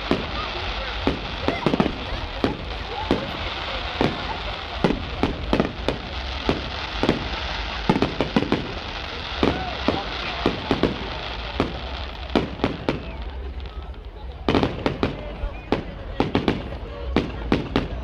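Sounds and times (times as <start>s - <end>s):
crowd noise: 0.0s - 18.0s
fireworks bangs and pops: 0.0s - 18.0s.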